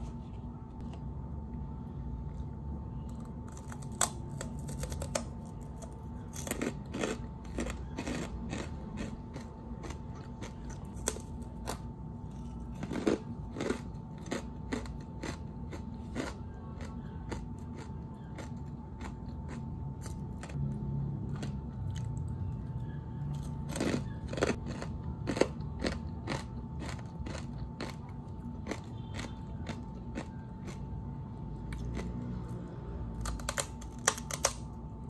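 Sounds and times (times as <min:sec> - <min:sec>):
pork cracklings crunching: 0:03.0 - 0:20.6, 0:21.2 - 0:22.7, 0:23.3 - 0:35.0.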